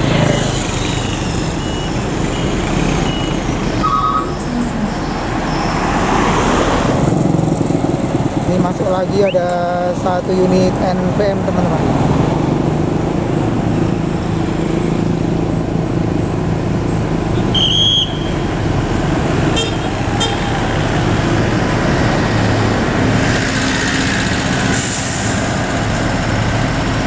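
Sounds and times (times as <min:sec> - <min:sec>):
diesel engines rumbling: 0:00.0 - 0:27.0.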